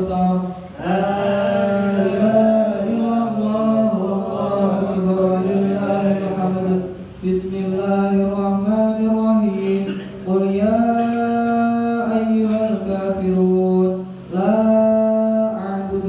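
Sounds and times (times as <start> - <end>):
man chanting recitation: 0.0 - 16.0.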